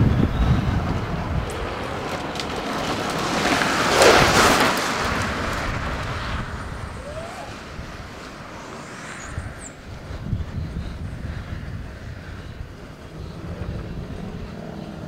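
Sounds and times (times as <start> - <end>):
road noise from moving vehicle: 0.0 - 15.0
rushing wind: 0.0 - 15.0.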